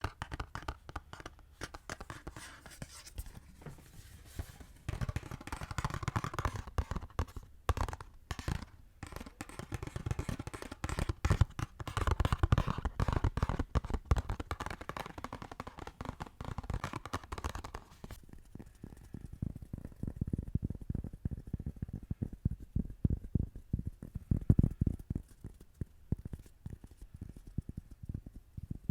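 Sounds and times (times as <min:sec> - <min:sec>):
fingers scratching and tapping: 0:00.0 - 0:03.4, 0:04.5 - 0:28.7.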